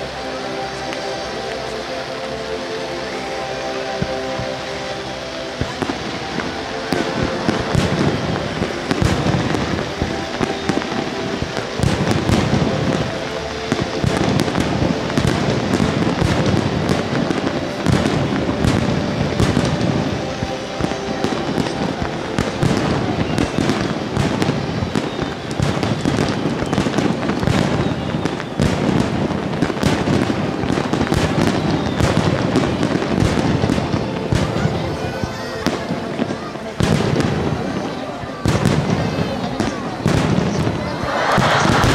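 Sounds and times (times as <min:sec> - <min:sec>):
firework bursts and crackling: 0:00.0 - 0:41.9.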